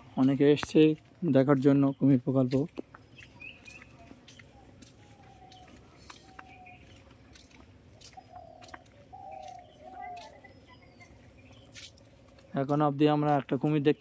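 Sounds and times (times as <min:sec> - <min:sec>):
faint bird calls and chirps: 0:00.0 - 0:12.8.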